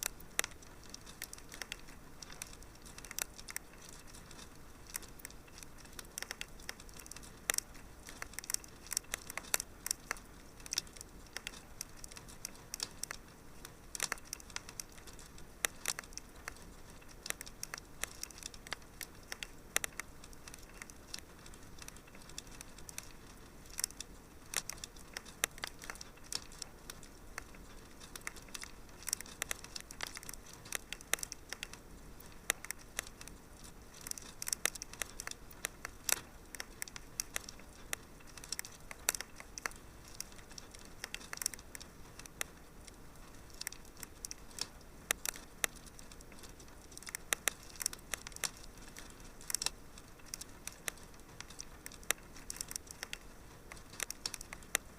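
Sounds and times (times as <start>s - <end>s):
sharp pops and snaps: 0.0s - 54.9s
soft steady hiss: 0.0s - 54.9s
wood fire crackling: 0.0s - 54.9s.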